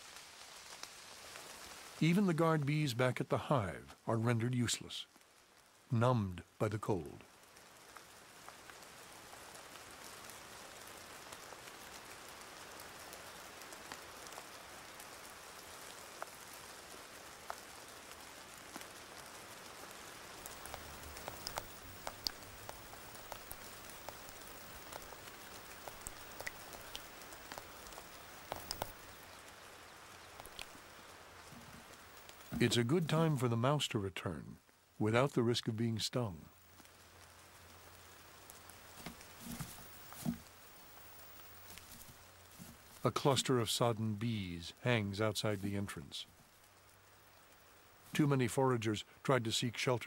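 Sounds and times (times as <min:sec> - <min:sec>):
faint steady rain: 0:00.0 - 0:50.0
raindrops ticking close by: 0:00.0 - 0:50.0.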